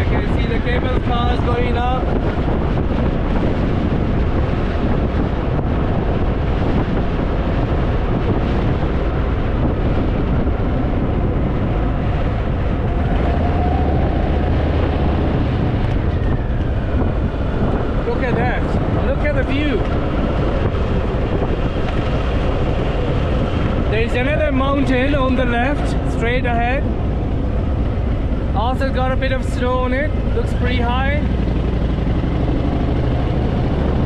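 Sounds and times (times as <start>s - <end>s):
motorcycle engine running: 0.0s - 34.0s
wind rush on microphone: 0.0s - 34.0s.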